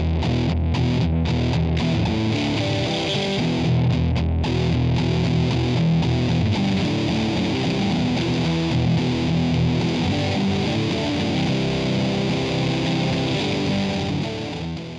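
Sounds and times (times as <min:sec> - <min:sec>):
rock music with electric guitar: 0:00.0 - 0:14.9.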